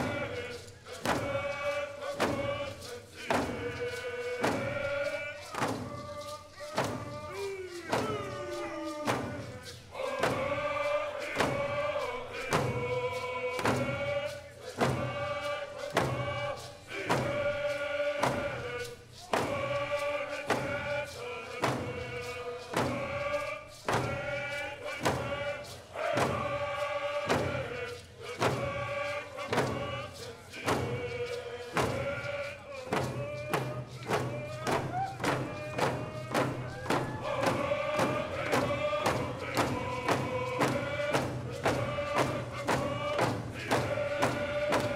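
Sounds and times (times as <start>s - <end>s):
group chanting in unison: 0.0s - 44.9s
steady drum beat: 0.0s - 44.9s.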